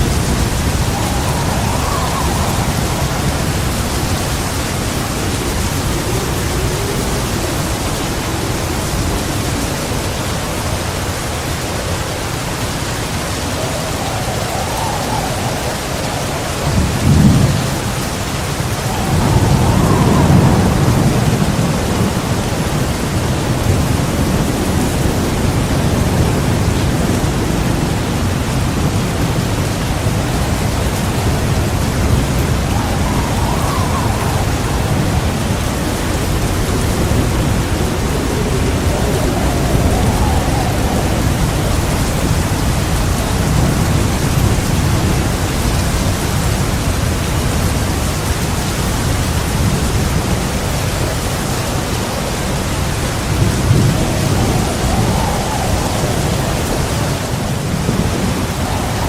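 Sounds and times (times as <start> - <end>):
heavy rain pouring: 0.0 - 59.0
low rolling thunder: 0.0 - 59.0.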